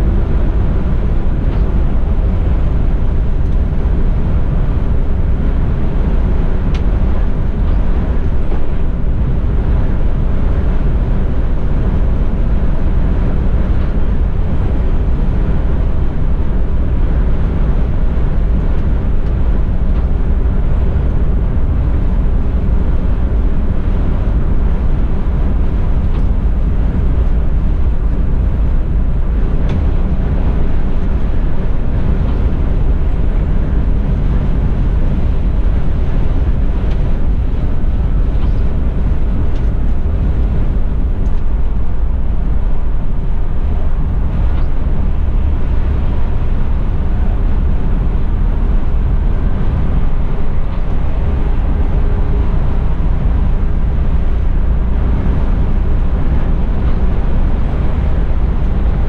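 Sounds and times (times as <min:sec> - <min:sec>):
coach cab rumble at cruising speed: 0:00.0 - 0:59.0.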